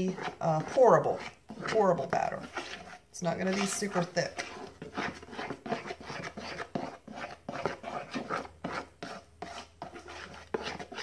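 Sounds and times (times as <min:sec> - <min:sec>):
utensil stirring batter in plastic bowl: 0:00.0 - 0:11.0.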